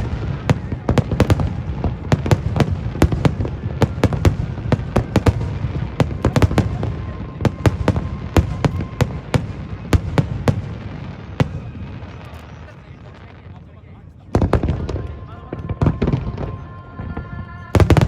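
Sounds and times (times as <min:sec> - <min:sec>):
low rumble of echoing explosions: 0:00.0 - 0:18.0.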